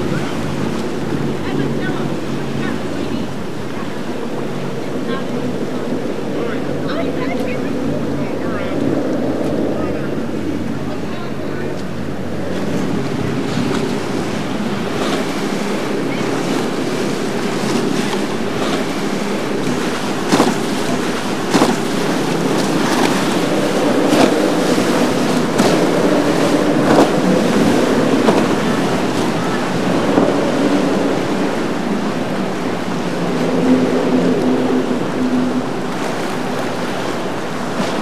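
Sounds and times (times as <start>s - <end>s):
churning water splashing: 0.0s - 38.0s
outboard motors running: 0.0s - 38.0s
wind on microphone: 0.0s - 38.0s.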